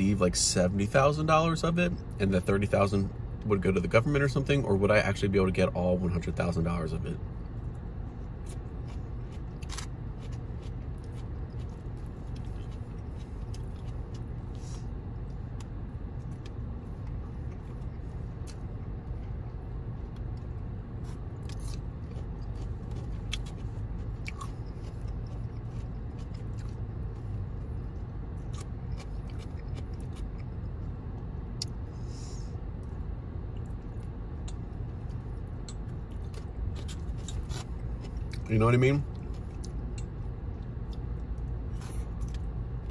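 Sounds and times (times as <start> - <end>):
person chewing: 7.6 - 32.9, 33.5 - 42.9.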